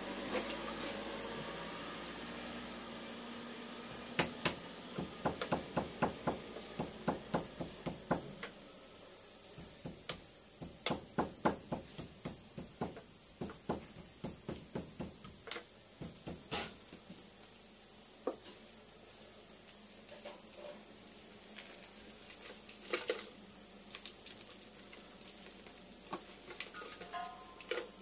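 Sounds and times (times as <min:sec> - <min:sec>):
insect drone: 0:00.0 - 0:28.0.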